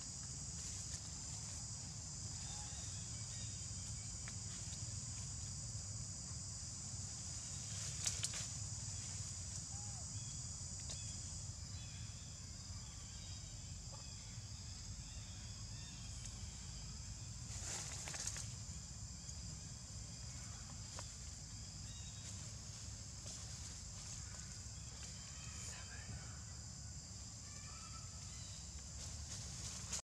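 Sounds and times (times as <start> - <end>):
rustle: 0.0 - 12.0, 15.1 - 26.0, 27.5 - 30.0
insects droning: 0.0 - 30.0.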